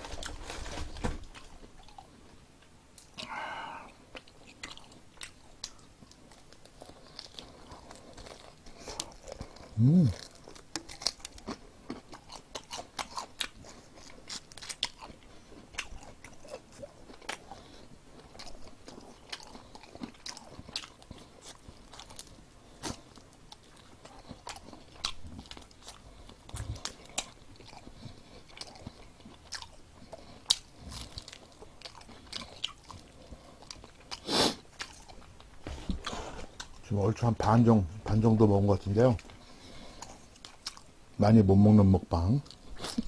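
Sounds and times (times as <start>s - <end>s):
crunchy chewing of fried chicken: 0.0s - 43.0s.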